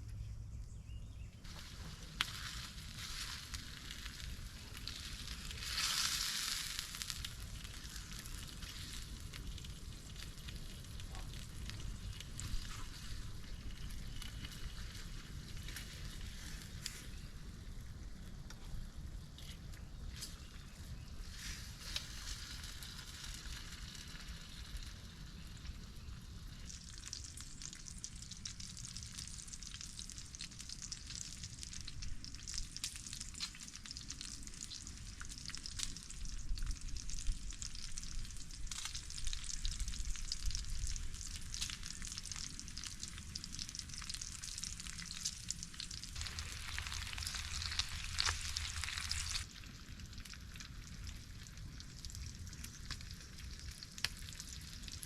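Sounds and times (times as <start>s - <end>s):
food sizzling in a pan: 1.4s - 17.2s, 21.2s - 55.0s.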